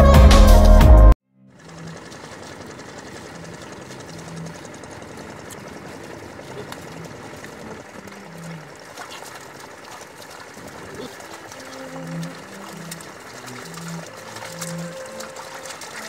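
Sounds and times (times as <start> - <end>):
low hums: 0.4 - 16.0
outdoor noise: 1.3 - 16.0
splashing in wet mud: 1.6 - 16.0.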